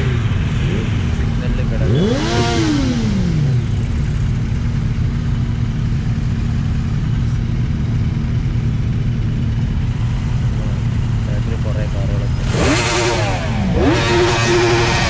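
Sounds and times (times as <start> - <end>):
motorcycle engine revving: 0.0 - 15.0
motorcycles idling: 0.0 - 15.0.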